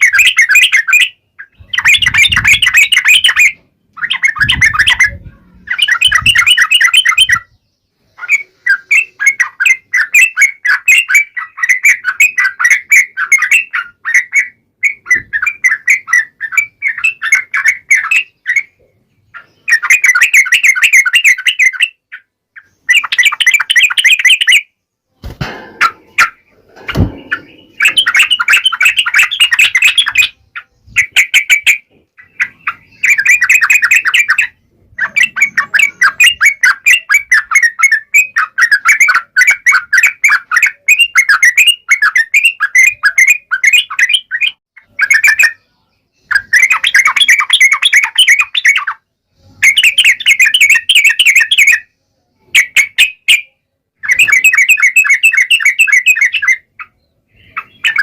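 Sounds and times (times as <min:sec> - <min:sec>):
bulbul singing: 0:00.0 - 0:58.0.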